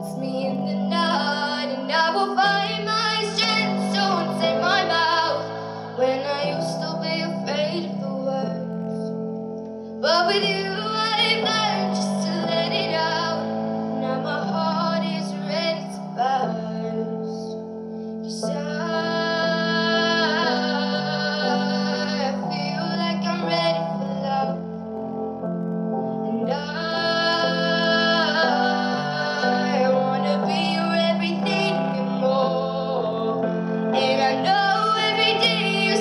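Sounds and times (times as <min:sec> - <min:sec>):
girl singing into microphone: 0:00.0 - 0:09.3, 0:10.0 - 0:24.7, 0:26.0 - 0:36.0
sustained accompaniment chords: 0:00.0 - 0:36.0.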